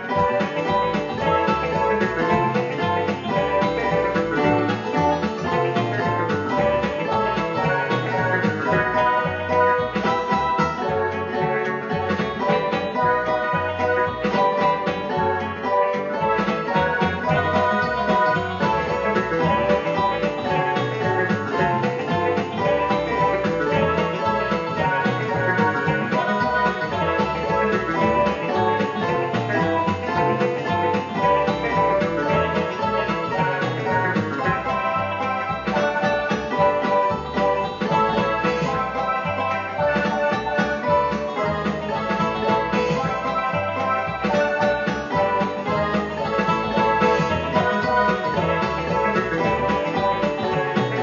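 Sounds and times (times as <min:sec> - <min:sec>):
plucked guitar music: 0:00.0 - 0:51.0.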